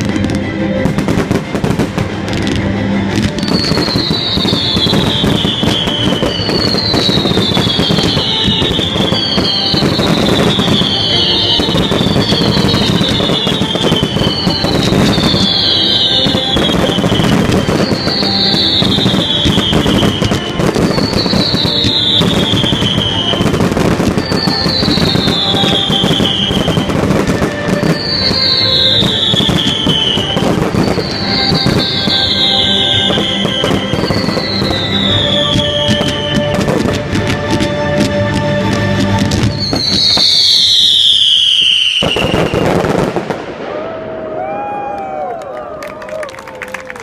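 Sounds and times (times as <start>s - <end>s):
music playing: 0.0s - 43.6s
fireworks bangs and crackling: 0.0s - 47.0s.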